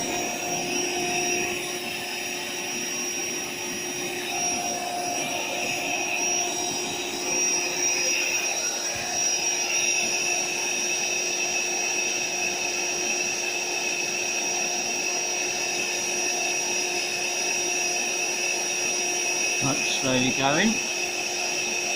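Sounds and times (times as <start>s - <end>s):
electric air pump whining: 0.0s - 21.9s.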